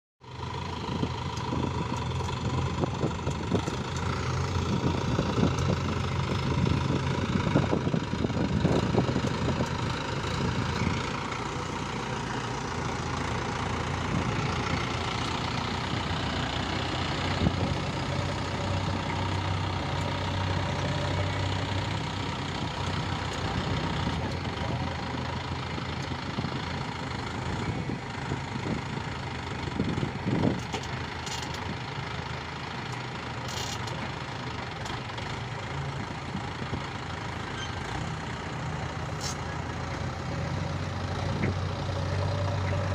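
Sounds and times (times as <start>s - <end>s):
tractor diesel engine running: 0.2s - 42.9s.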